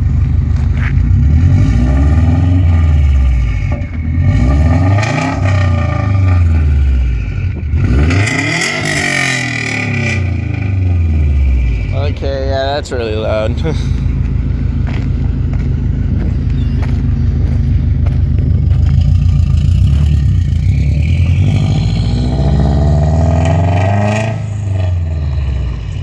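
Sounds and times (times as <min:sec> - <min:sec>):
loud car engine revving: 0:00.0 - 0:26.0.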